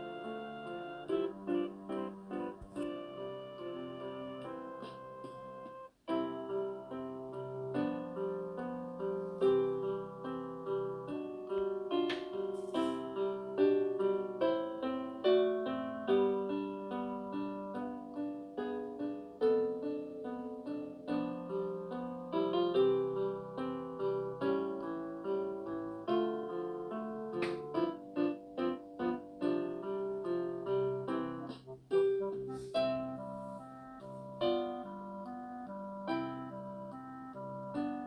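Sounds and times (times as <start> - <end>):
keyboard melody: 0.0 - 38.0.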